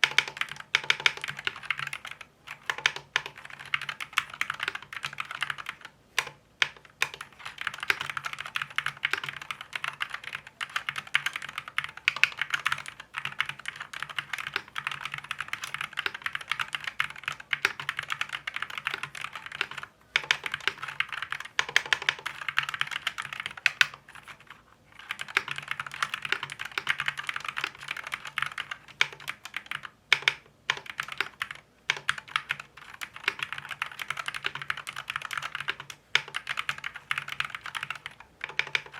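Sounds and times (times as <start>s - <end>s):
keyboard typing clacks: 0.0s - 24.0s, 25.0s - 38.9s.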